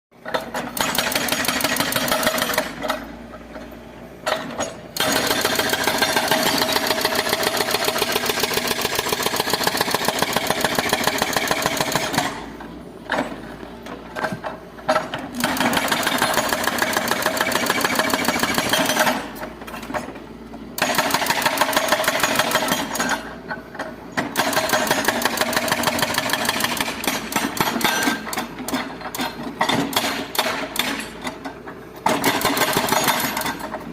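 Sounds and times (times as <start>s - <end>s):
excavator mechanical hammering: 0.2s - 3.6s, 4.2s - 33.9s.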